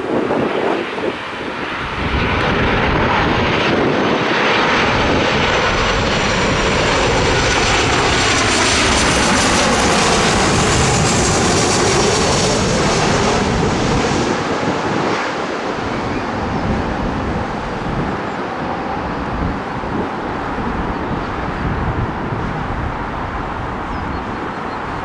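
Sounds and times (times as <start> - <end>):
airliner engines passing overhead: 0.0 - 25.0.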